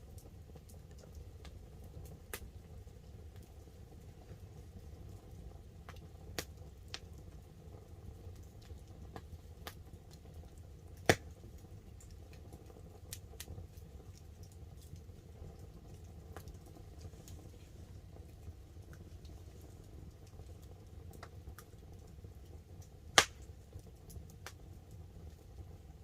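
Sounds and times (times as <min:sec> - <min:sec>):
campfire crackling and popping: 0:00.0 - 0:26.0
light rain on a tarp: 0:00.0 - 0:26.0.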